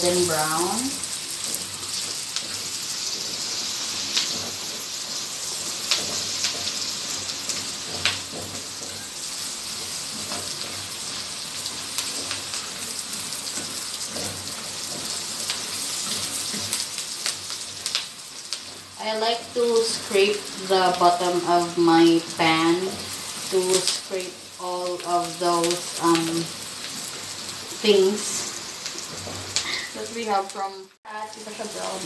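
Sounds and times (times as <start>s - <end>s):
garlic and onion sizzling in pan: 0.0s - 32.0s.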